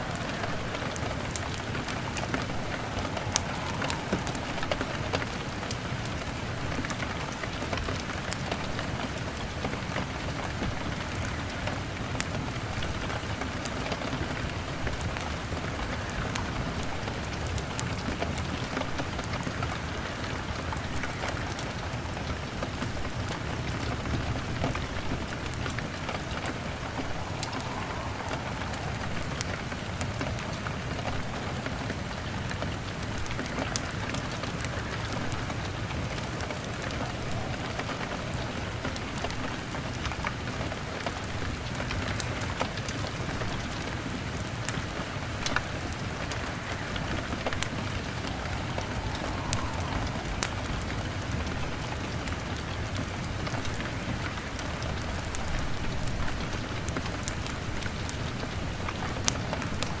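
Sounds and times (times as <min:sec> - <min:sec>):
rain on a window: 0:00.0 - 1:00.0
wood fire crackling: 0:00.0 - 1:00.0.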